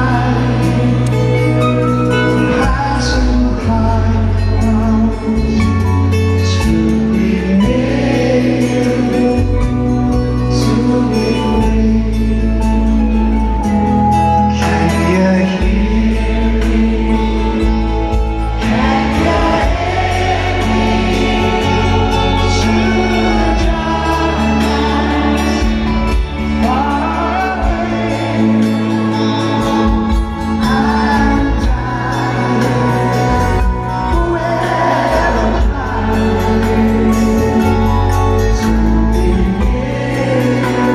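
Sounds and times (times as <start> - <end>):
man singing lead vocal: 0.0 - 13.7, 14.3 - 40.9
live band playing ballad: 0.0 - 40.9.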